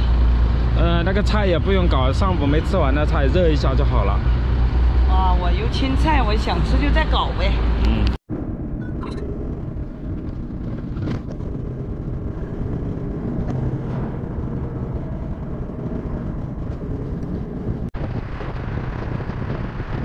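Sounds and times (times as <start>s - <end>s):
road rumble of tyres and engine: 0.0s - 20.0s.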